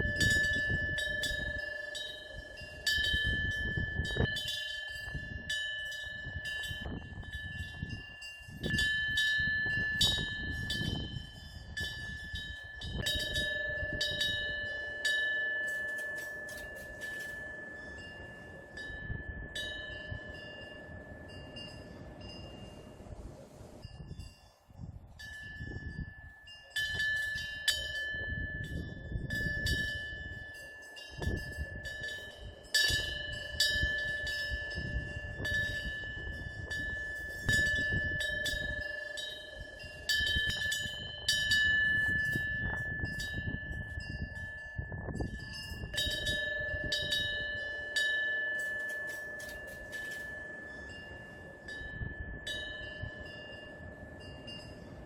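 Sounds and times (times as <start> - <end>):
wind bell ringing: 0.0 - 55.0.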